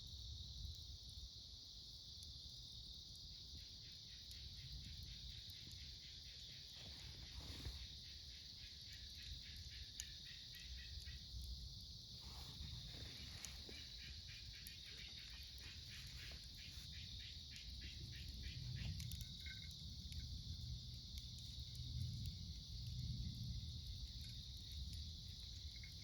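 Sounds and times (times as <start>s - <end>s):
cricket chirps: 0.0s - 26.0s
insects trilling: 0.0s - 26.0s
wood fire crackles: 0.0s - 26.0s.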